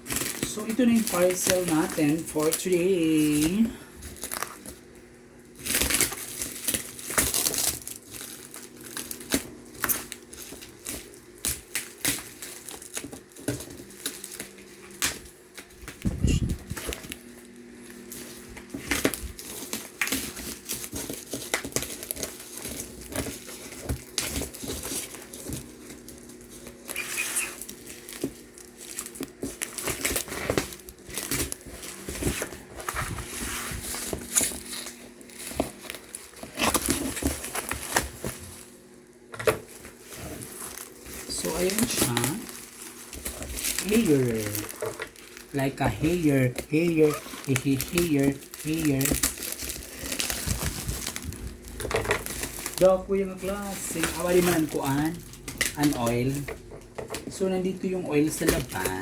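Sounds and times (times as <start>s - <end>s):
plastic and paper crinkling: 0.0s - 59.0s.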